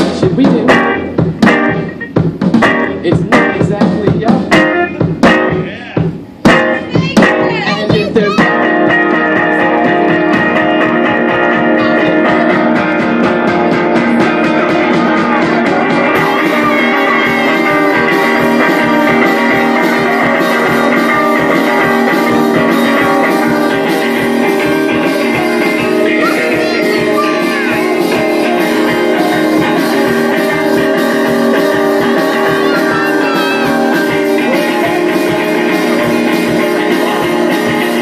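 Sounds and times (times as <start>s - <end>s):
drum kit: 0.0s - 38.0s
electric guitar: 0.0s - 38.0s.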